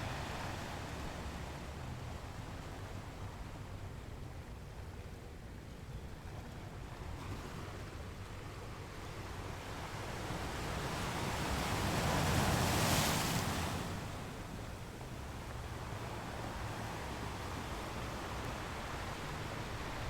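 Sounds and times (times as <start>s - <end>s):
ocean waves on shore: 0.0s - 4.0s, 7.0s - 20.0s.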